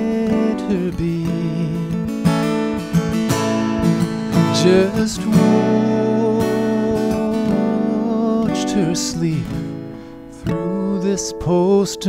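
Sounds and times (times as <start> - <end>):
acoustic guitar strumming: 0.0 - 12.0
man singing: 0.0 - 12.0.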